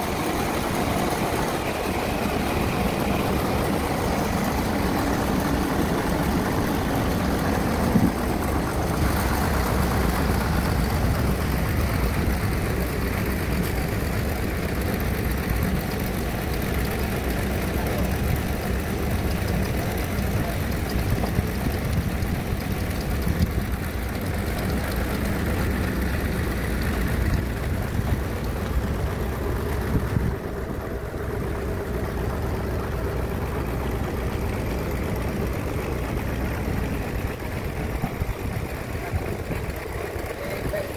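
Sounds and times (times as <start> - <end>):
band sawmill humming: 0.0 - 40.9.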